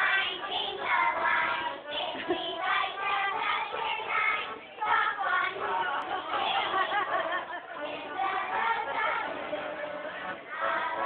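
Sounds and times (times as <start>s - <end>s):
children singing: 0.0s - 11.0s
piano accordion: 0.0s - 11.0s.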